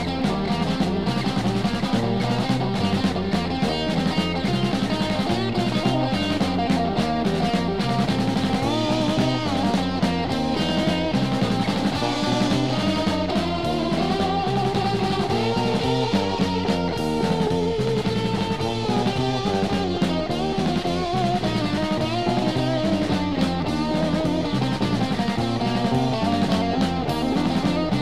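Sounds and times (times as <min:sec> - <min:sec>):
drum kit: 0:00.0 - 0:28.0
electric guitar: 0:00.0 - 0:28.0.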